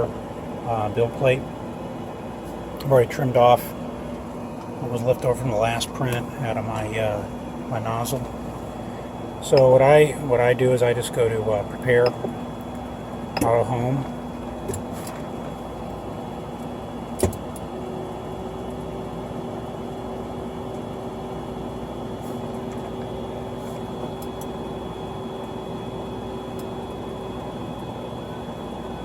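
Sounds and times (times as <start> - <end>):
fans humming: 0.0 - 29.0.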